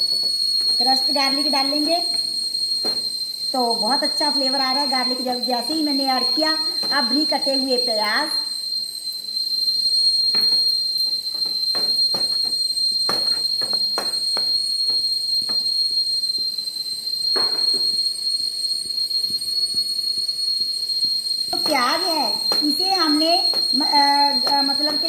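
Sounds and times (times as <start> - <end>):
high whistle-like tone: 0.0 - 25.0.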